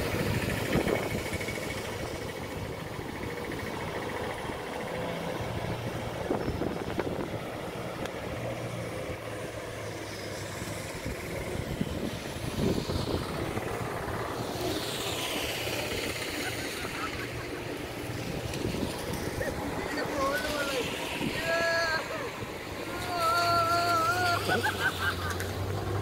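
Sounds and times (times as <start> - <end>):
distant vehicle engine running: 0.0 - 26.0
vehicle splashing through water: 0.0 - 26.0.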